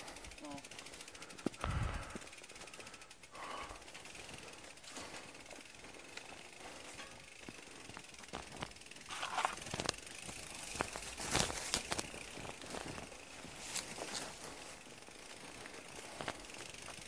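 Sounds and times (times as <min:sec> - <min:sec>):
bicycle freewheel ticking: 0:00.0 - 0:17.0.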